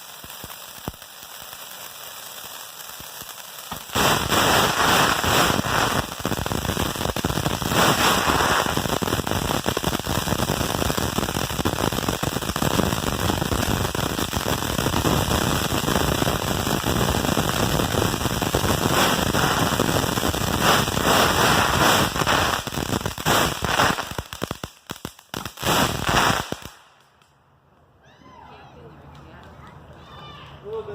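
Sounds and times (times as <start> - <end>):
fireworks hiss: 0.0 - 27.0
fireworks crackling pops: 0.0 - 27.9.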